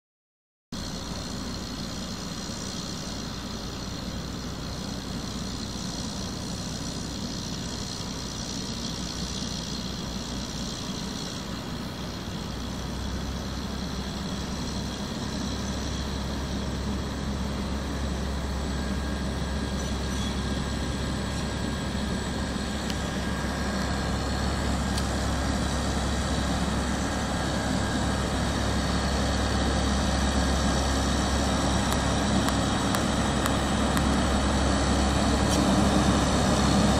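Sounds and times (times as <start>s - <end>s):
diesel locomotive engine humming: 0.8s - 36.9s.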